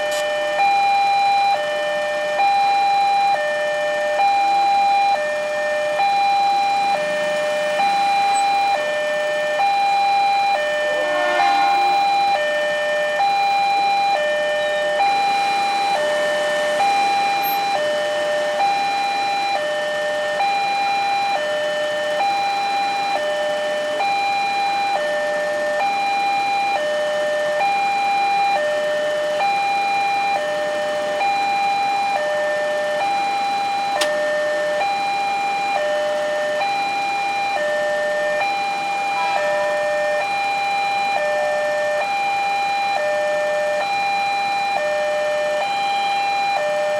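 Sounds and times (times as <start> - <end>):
two-tone level crossing alarm: 0.0 - 46.9.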